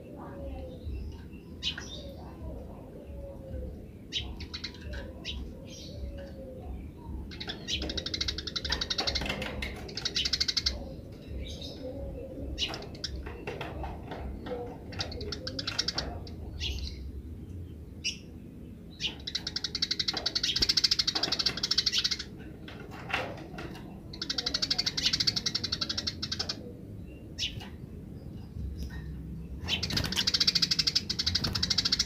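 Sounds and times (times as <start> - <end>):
sparrow chattering: 0.1 - 17.1, 19.0 - 22.7, 23.8 - 32.0.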